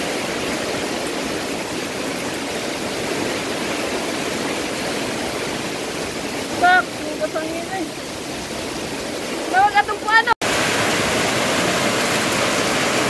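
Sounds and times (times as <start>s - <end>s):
heavy rain pouring on trees: 0.0s - 13.0s.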